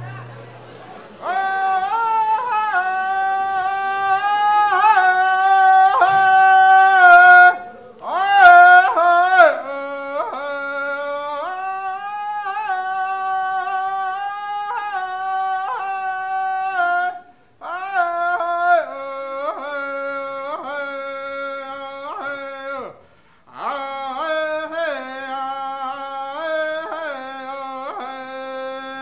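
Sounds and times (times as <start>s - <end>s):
man singing solo: 0.0s - 29.0s.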